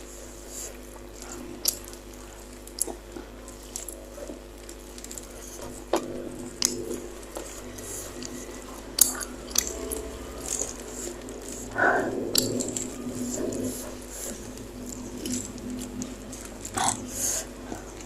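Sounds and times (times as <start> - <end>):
wet chewing and slurping: 0.0 - 18.0.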